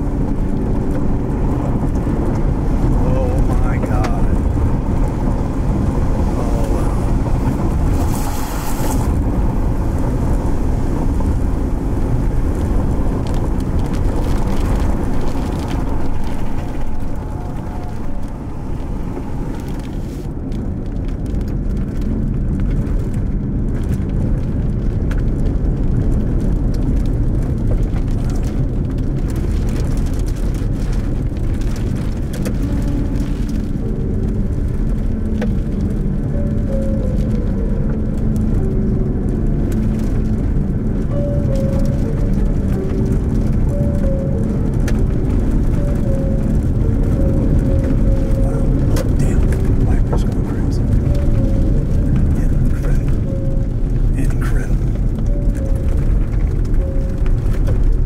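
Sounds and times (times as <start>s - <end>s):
car driving low rumble: 0.0s - 58.0s.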